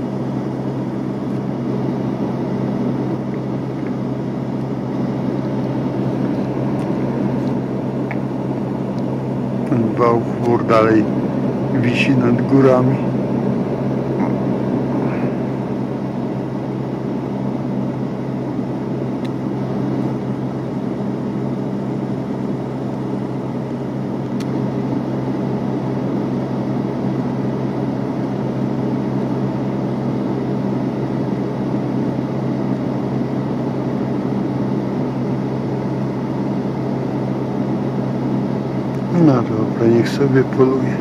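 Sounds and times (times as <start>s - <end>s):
engine idling hum: 0.0s - 41.0s.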